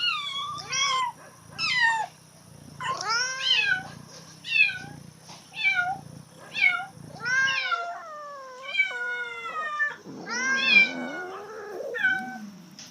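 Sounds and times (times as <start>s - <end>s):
cat meowing: 0.0s - 2.1s, 2.8s - 12.5s.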